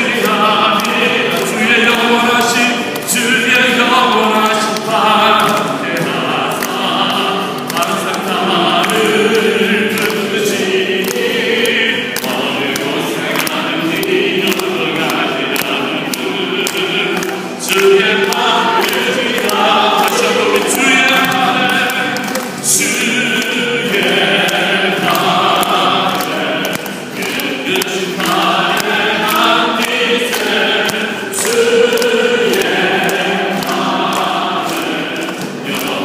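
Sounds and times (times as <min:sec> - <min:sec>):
group singing: 0:00.0 - 0:36.0
people clapping along: 0:00.0 - 0:36.0.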